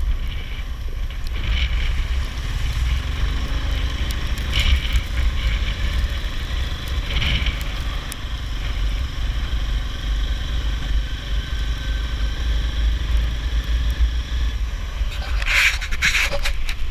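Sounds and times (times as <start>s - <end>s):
quad bike engine running: 0.0s - 16.9s.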